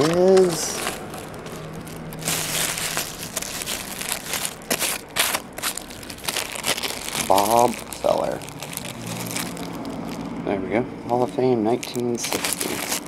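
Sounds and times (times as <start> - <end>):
plastic wrap and foil crinkling: 0.0 - 10.4, 11.1 - 13.0.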